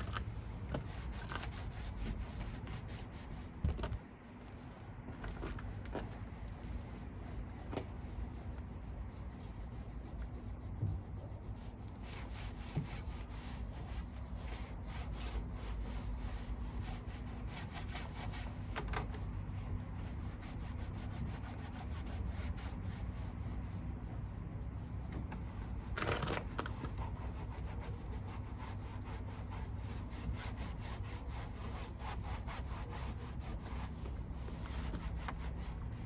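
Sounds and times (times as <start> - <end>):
constant low hum: 0.0 - 36.0
rubbing strokes on a surface: 0.2 - 3.6, 5.7 - 18.7, 19.6 - 24.2, 26.7 - 36.0.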